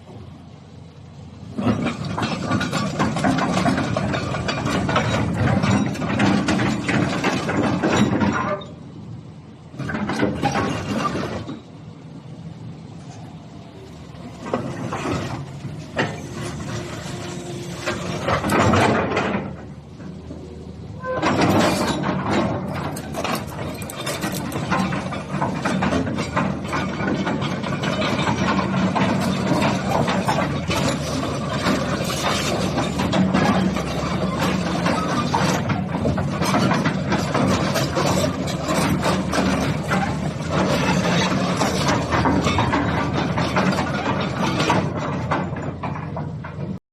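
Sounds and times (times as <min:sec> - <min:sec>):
excavator engine and hydraulics: 0:00.0 - 0:46.8.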